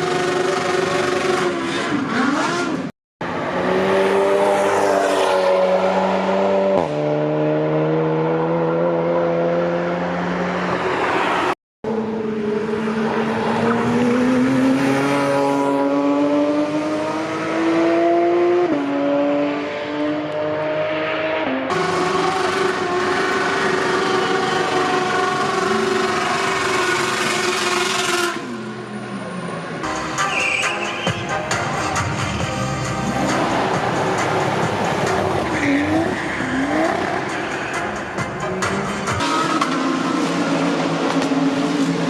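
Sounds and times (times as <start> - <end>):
race car engines accelerating: 0.0 - 42.0.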